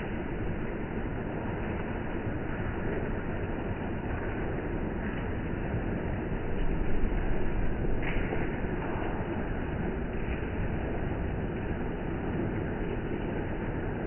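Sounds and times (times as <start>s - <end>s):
steady rain falling: 0.0s - 14.0s
wind rumble on microphone: 0.0s - 14.0s.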